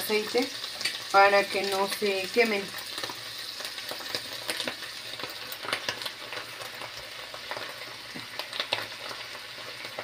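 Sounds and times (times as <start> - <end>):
meat sizzling with crackling pops: 0.0 - 10.0.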